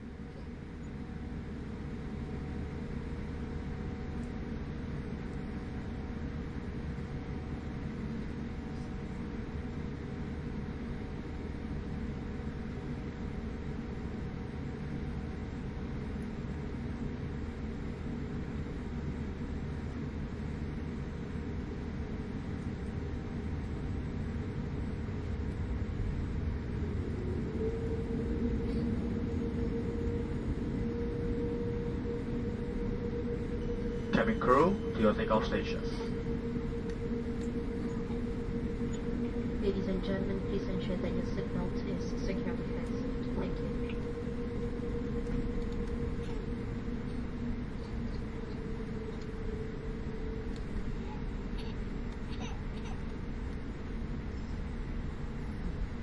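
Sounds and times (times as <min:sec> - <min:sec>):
aircraft cabin rumble: 0:00.0 - 0:56.0
faint constant hum: 0:00.0 - 0:56.0
faint steady whine: 0:00.0 - 0:56.0.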